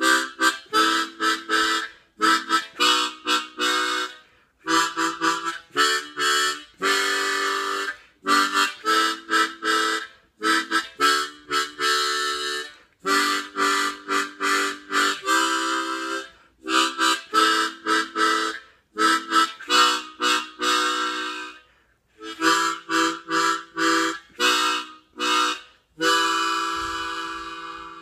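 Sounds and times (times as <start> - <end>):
harmonica playing chords: 0.0 - 28.0.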